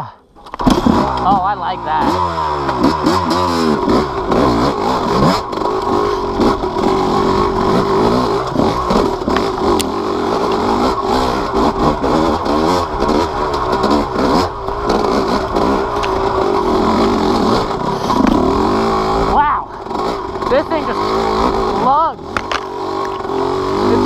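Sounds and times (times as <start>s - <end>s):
dirt bike engine revving: 0.5s - 24.0s.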